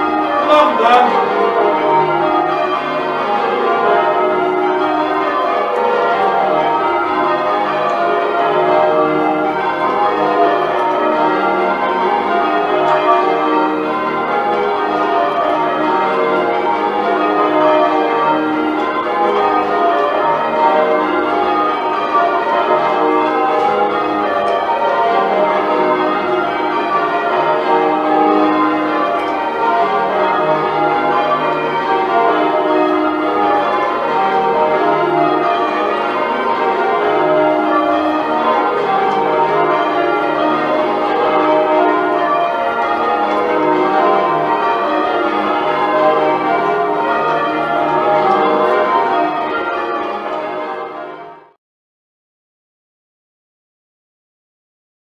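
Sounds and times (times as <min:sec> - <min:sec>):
church bells ringing: 0:00.0 - 0:51.6.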